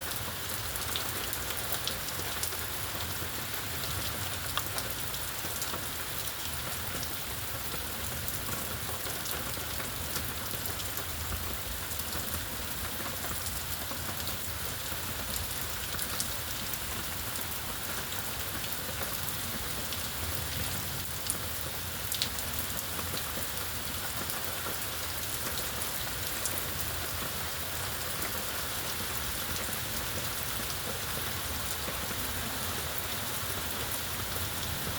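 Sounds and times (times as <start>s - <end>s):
raindrops ticking on surfaces: 0.0s - 34.9s
steady rainfall hiss: 0.0s - 34.9s.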